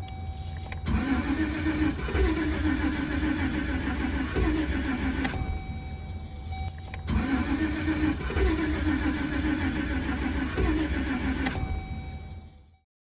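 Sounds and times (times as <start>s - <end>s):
van engine cranking without starting: 0.0s - 12.8s.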